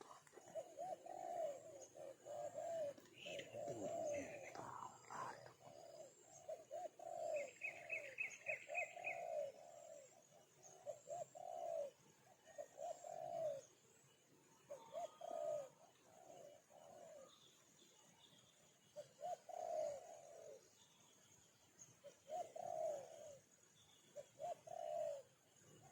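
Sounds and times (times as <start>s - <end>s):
bird cooing: 0.0s - 25.9s.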